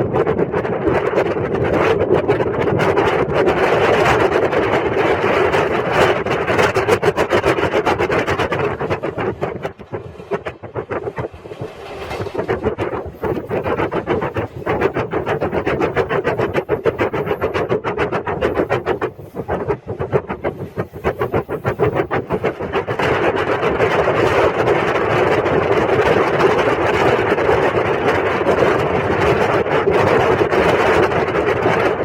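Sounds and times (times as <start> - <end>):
passenger coach running noise: 0.0 - 32.0.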